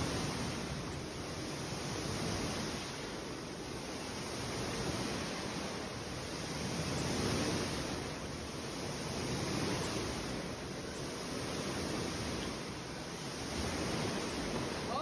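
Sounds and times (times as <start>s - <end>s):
pool water sloshing in waves: 0.0s - 15.0s.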